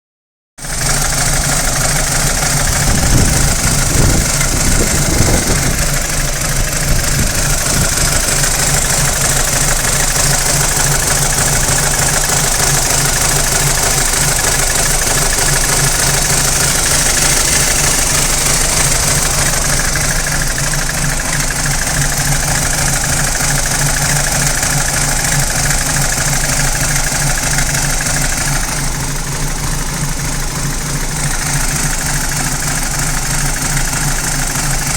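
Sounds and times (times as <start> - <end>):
engine idling with rattle: 0.6 - 34.9
low engine thumps: 1.5 - 34.9.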